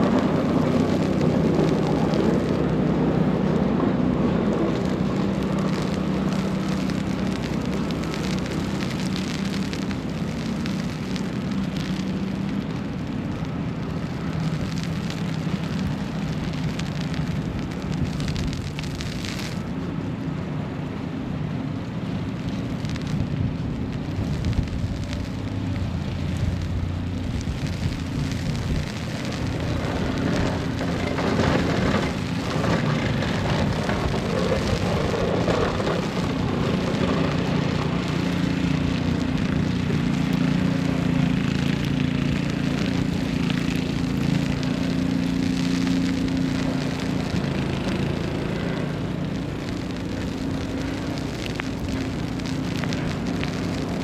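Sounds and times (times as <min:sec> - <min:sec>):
steady hiss of snowstorm: 0:00.0 - 0:54.0.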